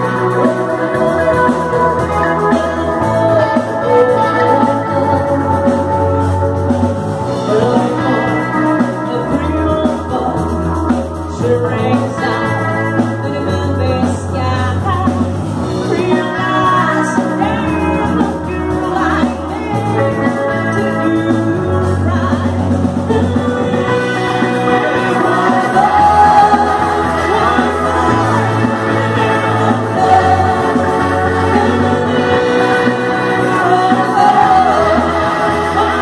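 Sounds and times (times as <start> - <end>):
bass holding low notes: 0.0 - 36.0
drum kit: 0.0 - 36.0
electric guitars: 0.0 - 36.0
woman singing: 0.0 - 36.0.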